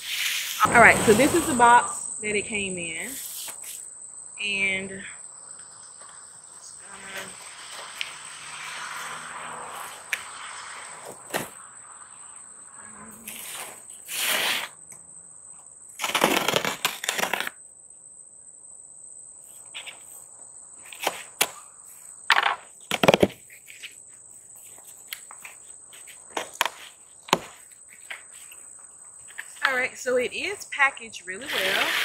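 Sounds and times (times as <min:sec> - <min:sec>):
high insect trill: 0:00.0 - 0:32.0.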